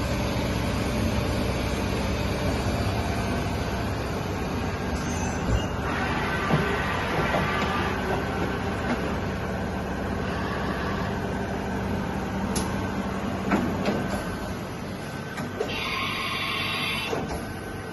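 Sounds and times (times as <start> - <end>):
milling machine humming: 0.0 - 17.9.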